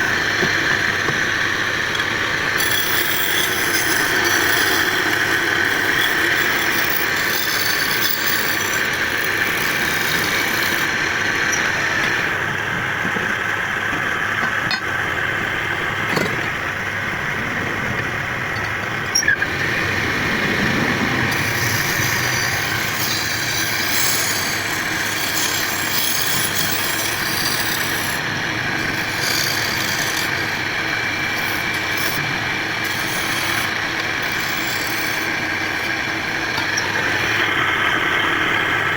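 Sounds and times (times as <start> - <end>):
wood lathe cutting wood: 0.0 - 14.4, 16.7 - 38.9.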